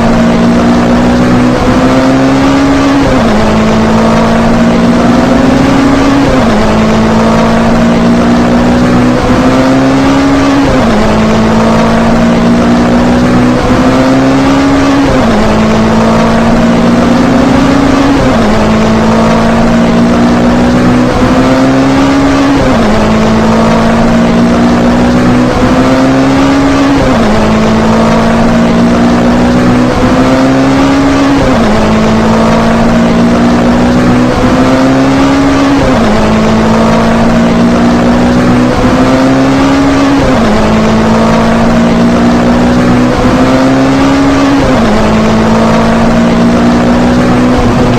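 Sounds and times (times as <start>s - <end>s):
race car engine at full throttle: 0.0s - 47.9s.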